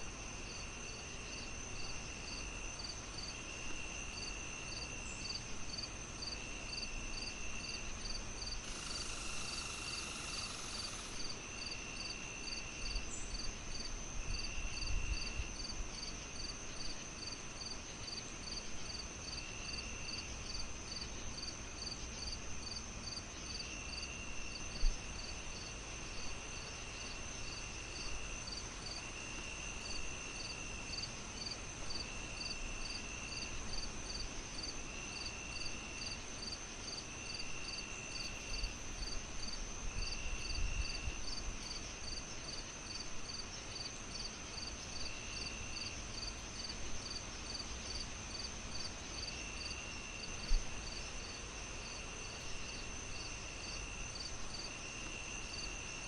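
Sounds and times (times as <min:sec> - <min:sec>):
crickets chirping: 0:00.0 - 0:56.0
insect buzz: 0:00.1 - 0:56.0
high-pitched insect whine: 0:00.5 - 0:56.0
insect trill: 0:00.5 - 0:56.0.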